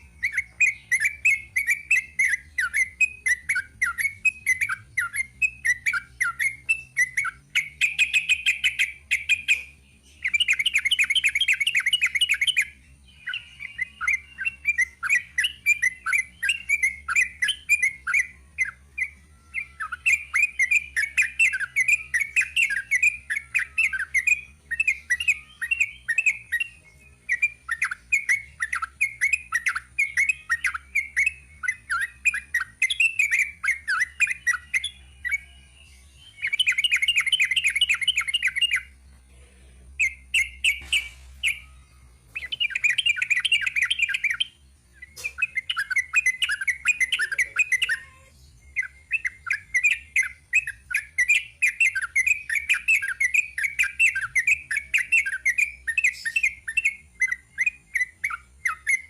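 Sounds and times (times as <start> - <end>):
bird singing chattering notes: 0.0 - 39.4, 40.0 - 59.0.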